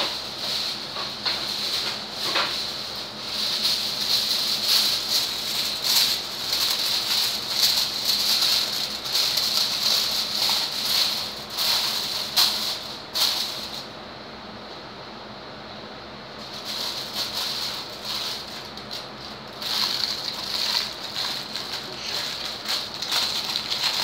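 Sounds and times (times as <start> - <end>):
aluminium foil crinkling: 0.0 - 13.9, 16.4 - 24.0.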